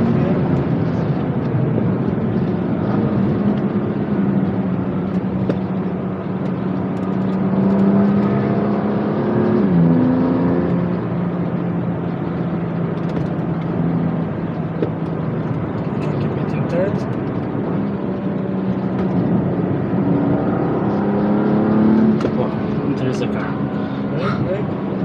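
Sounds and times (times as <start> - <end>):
car engine under load: 0.0 - 25.0
tyre and road noise: 0.0 - 25.0.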